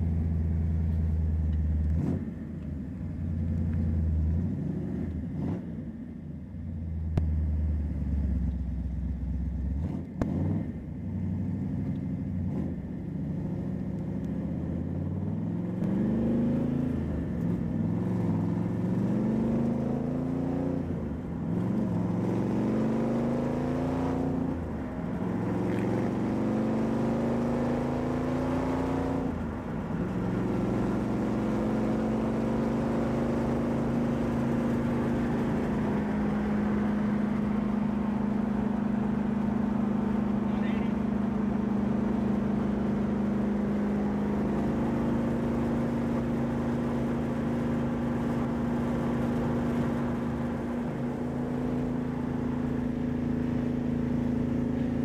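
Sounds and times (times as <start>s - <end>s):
car engine accelerating: 0.0s - 6.1s, 6.7s - 55.0s.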